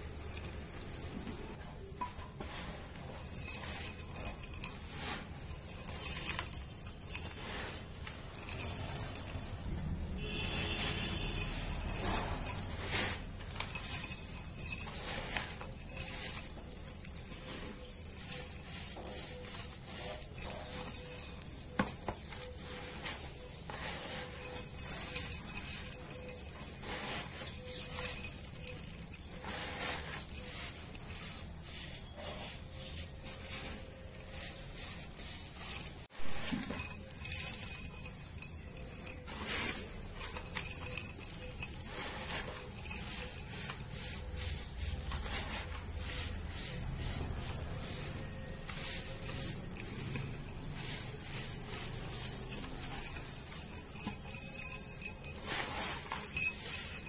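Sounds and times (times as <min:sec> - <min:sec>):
hands crushing dry sand: 0:02.2 - 0:09.7, 0:10.4 - 0:57.0.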